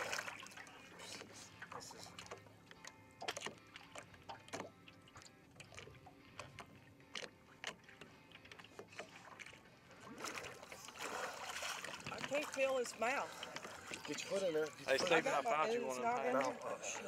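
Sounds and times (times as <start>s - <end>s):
water splashing around waders: 0.0s - 17.0s.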